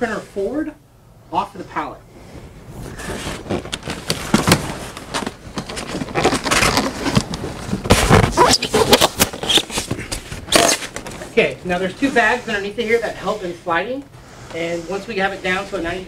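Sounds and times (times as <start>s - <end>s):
foam and plastic scraping on wood: 2.9s - 16.0s.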